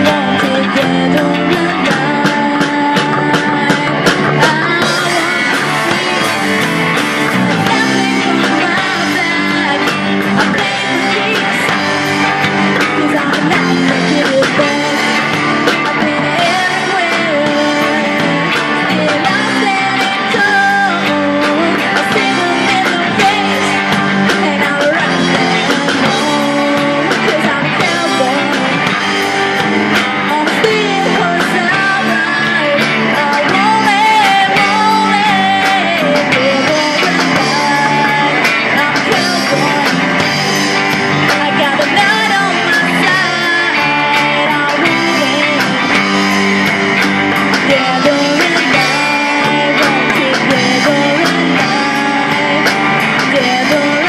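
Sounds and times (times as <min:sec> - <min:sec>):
bass guitar: 0:00.0 - 0:54.0
drum kit: 0:00.0 - 0:54.0
electric guitars: 0:00.0 - 0:54.0
woman singing: 0:00.0 - 0:54.0.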